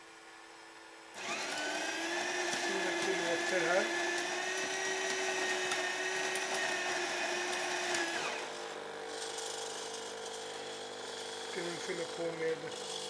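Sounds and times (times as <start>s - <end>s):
coffee grinder motor whining: 0.0s - 13.0s.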